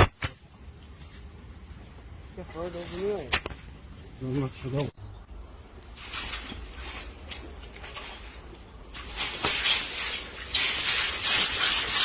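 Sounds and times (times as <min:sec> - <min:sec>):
rustling and scraping: 0:00.0 - 0:04.9, 0:05.6 - 0:12.0.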